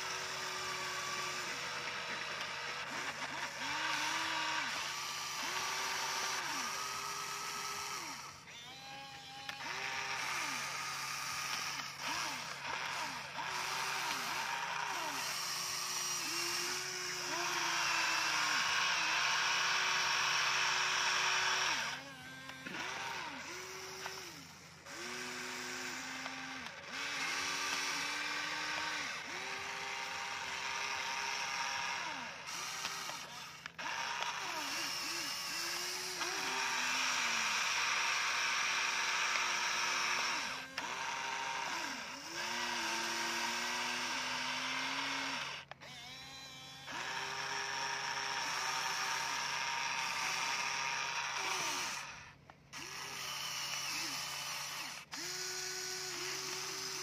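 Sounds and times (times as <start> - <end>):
toy electric motors whining: 0.0 - 57.0.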